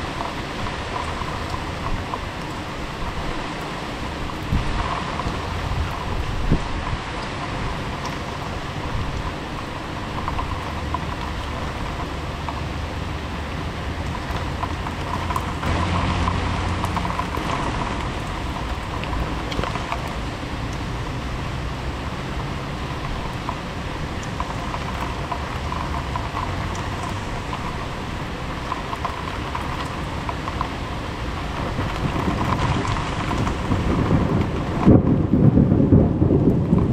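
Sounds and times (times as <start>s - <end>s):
heavy rain falling: 0.0s - 36.9s
low thunder rumble: 0.0s - 36.9s.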